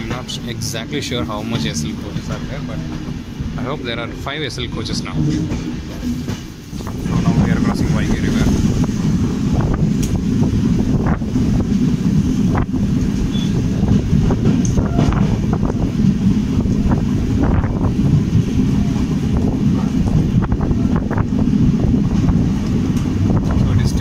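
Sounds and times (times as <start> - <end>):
train clattering: 0.0 - 24.0
train rumbling over bridge: 0.0 - 24.0
wind buffeting microphone: 4.6 - 24.0.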